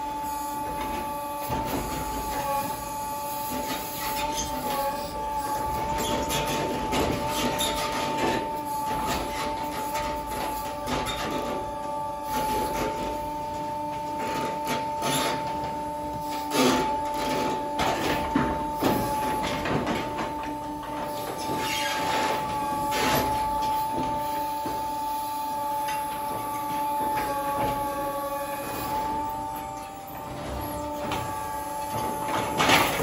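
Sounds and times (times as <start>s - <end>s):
hydraulic machine whine: 0.0s - 33.0s.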